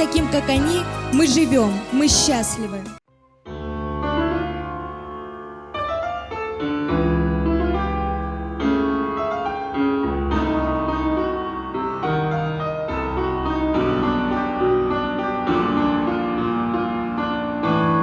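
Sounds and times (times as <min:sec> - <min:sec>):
slow piano-led instrumental: 0:00.0 - 0:18.0.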